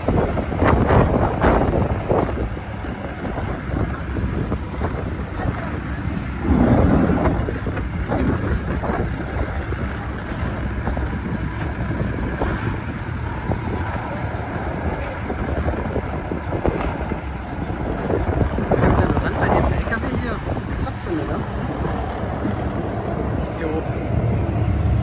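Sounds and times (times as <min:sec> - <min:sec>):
low steady rumble: 0:00.0 - 0:25.0
wind buffeting microphone: 0:00.0 - 0:25.0.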